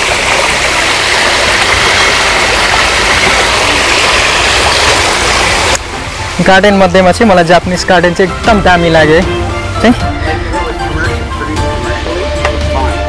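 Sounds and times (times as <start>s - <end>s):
waterfall splashing: 0.0s - 12.9s.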